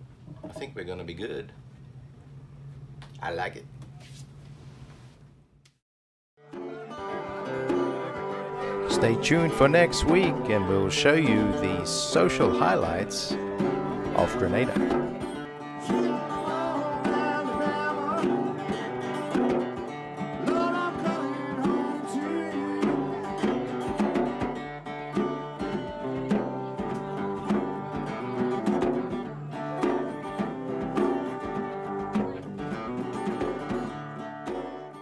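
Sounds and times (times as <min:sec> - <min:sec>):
plucked and strummed guitar: 0:06.4 - 0:35.0.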